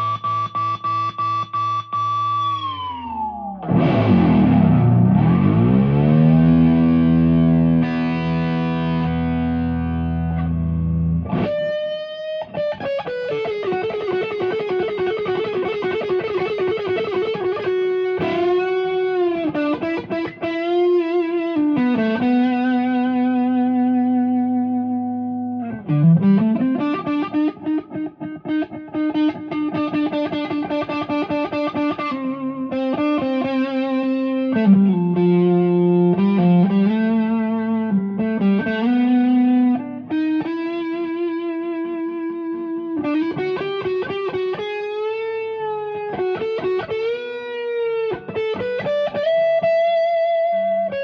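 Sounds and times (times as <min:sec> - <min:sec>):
distorted electric guitar: 0:00.0 - 0:51.0.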